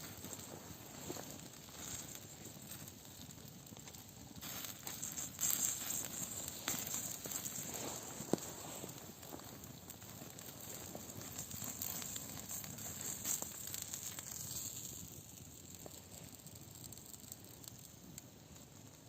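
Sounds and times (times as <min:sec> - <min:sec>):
campfire crackling and hissing: 0:00.0 - 0:19.0.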